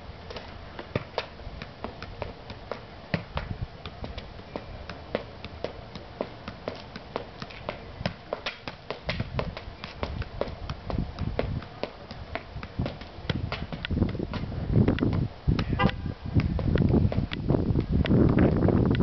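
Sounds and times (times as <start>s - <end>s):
ball being kicked taps: 0.3s - 19.0s.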